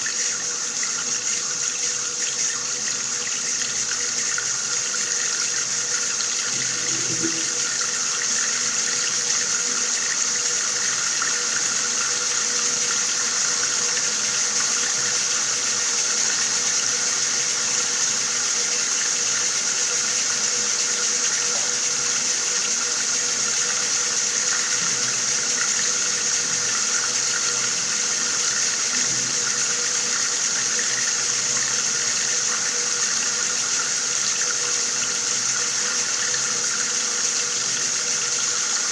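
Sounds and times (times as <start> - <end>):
water running from a tap: 0.0 - 38.9.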